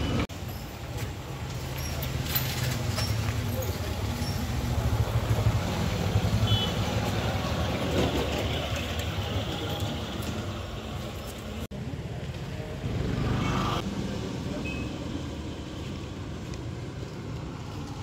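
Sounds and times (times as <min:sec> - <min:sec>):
low rumble of street noise: 0:00.0 - 0:18.0.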